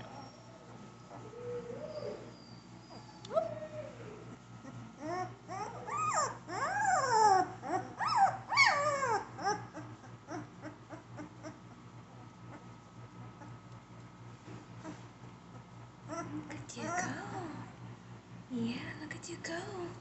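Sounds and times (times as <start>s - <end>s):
puppy whining and yelping: 0.0s - 13.8s, 14.8s - 17.2s.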